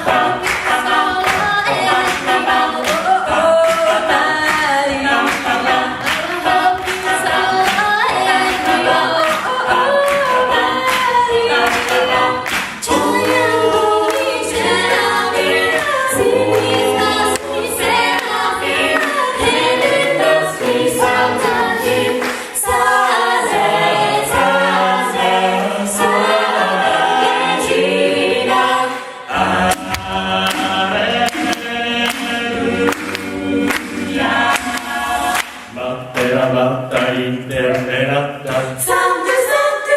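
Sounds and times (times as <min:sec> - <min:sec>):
a cappella group singing: 0:00.0 - 0:39.9.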